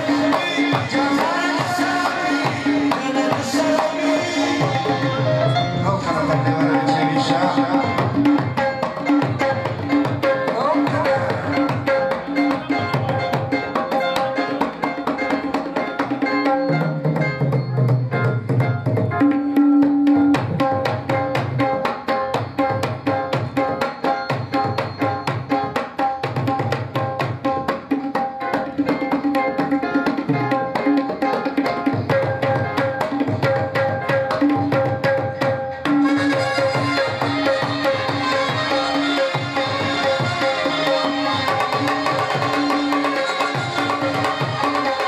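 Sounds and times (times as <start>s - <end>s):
harmonium melody: 0.0s - 45.0s
tabla drumming: 0.0s - 45.0s.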